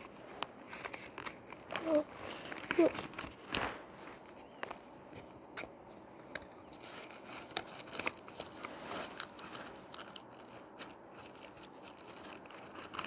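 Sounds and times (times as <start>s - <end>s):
soft rustling of packaging: 0.0s - 13.0s.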